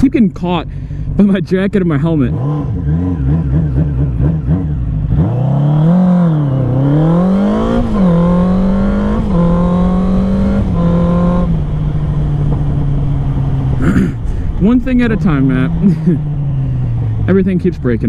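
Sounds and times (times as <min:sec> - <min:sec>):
motorcycle engine revving: 0:01.9 - 0:18.0.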